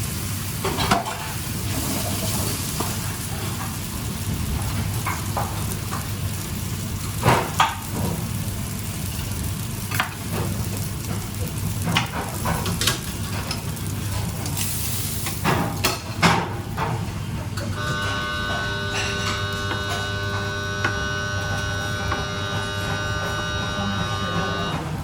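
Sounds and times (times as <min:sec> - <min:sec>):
food sizzling in a pan: 0:00.0 - 0:23.8.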